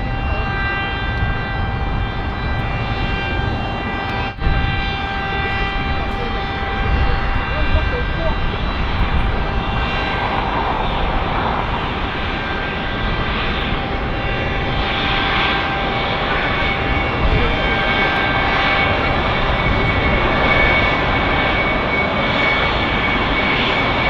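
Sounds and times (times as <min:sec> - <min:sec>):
jet engines roaring and whining: 0:00.0 - 0:24.0.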